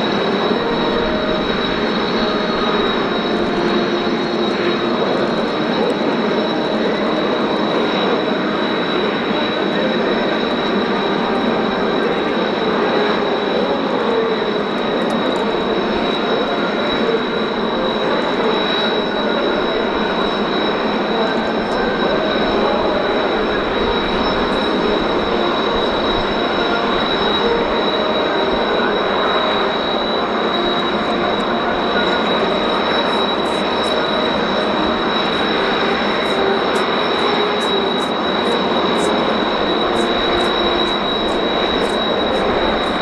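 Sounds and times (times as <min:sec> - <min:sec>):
jet engine whine and roar: 0:00.0 - 0:43.0.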